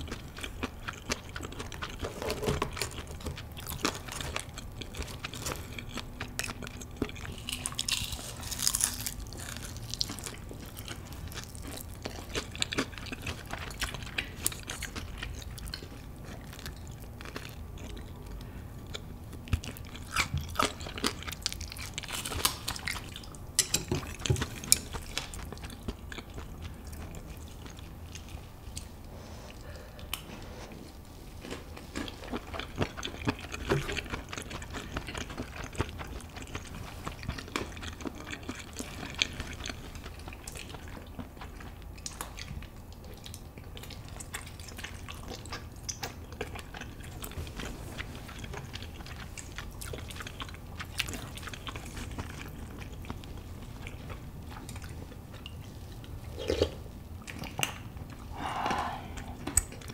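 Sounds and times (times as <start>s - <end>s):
person chewing wetly: 0.0s - 59.9s.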